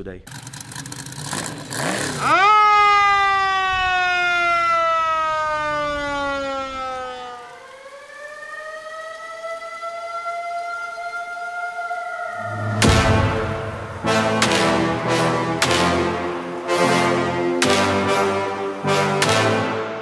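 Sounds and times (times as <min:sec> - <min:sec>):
siren wailing: 0:01.8 - 0:19.5.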